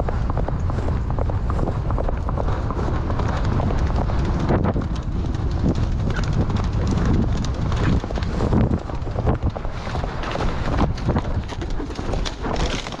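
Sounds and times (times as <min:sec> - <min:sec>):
horse hoofbeats on dirt road: 0:00.0 - 0:13.0
wind on microphone: 0:00.0 - 0:13.0.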